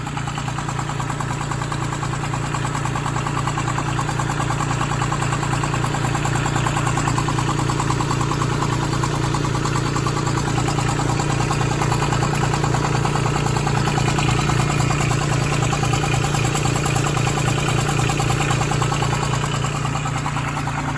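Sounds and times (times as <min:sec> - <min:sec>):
diesel engine running: 0:00.0 - 0:20.9
fast regular engine knock: 0:00.0 - 0:20.9.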